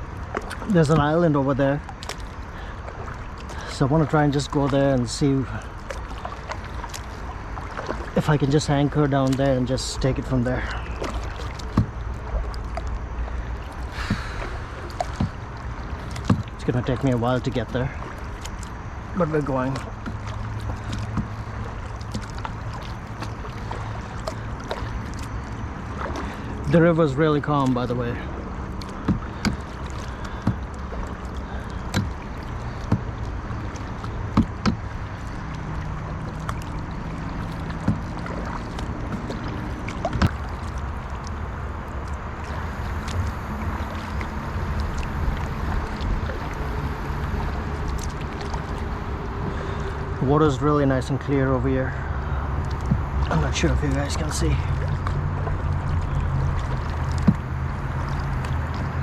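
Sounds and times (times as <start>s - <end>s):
paddle splashing and dripping water: 0.0s - 59.0s
steady low rumble: 0.0s - 59.0s.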